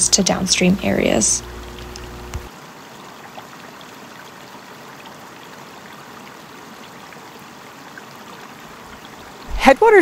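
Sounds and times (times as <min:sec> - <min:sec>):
creek running over rocks: 0:00.1 - 0:10.0.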